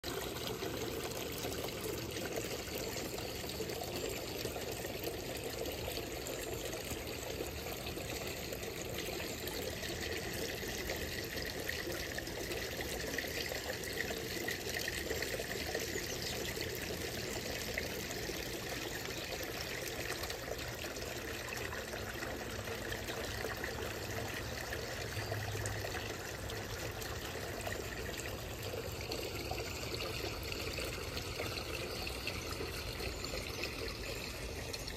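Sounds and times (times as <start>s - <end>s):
water trickling into pond: 0.0s - 34.9s.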